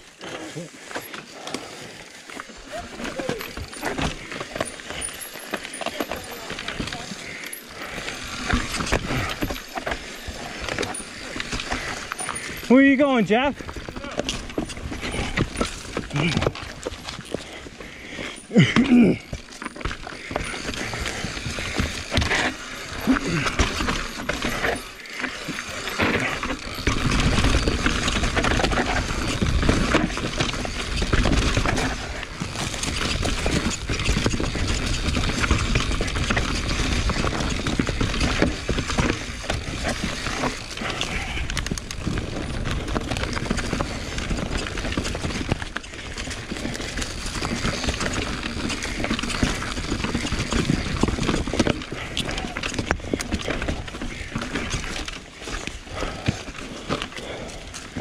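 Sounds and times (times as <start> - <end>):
mountain bike rattling over rocks: 0.0 - 58.0.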